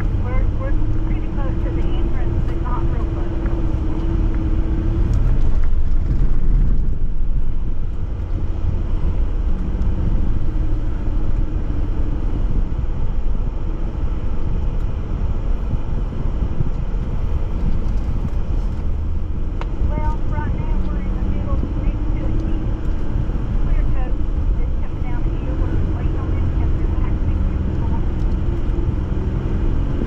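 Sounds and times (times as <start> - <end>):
vehicle engine rumbling offroad: 0.0 - 30.0.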